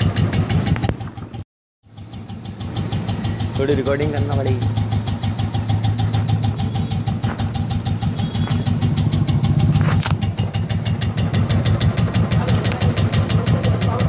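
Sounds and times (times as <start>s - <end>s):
motorcycle engine idling with ticking: 0.0s - 14.0s.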